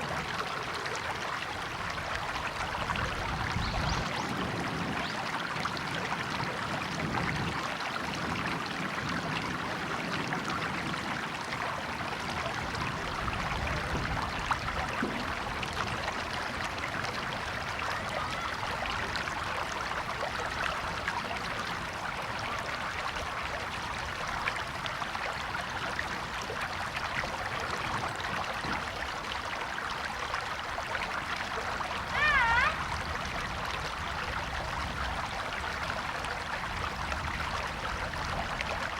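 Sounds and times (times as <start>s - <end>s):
river running over rocks: 0.0s - 38.9s.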